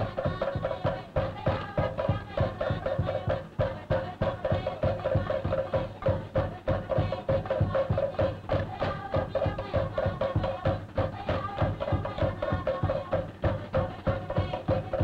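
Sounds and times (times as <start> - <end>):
deep drum beats: 0.0 - 15.0
wooden slit drums: 0.0 - 15.0.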